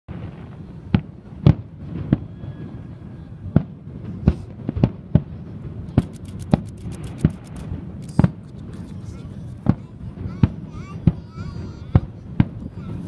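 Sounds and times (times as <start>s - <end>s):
fireworks booming: 0.1s - 13.0s
steady background noise: 0.1s - 13.0s.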